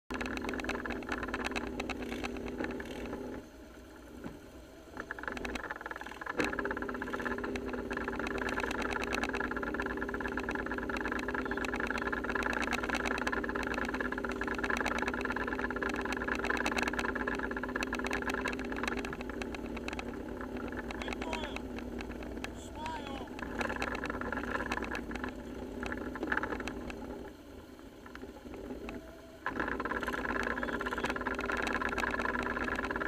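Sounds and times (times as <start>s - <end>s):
motorcycle engines idling: 0.1s - 33.0s.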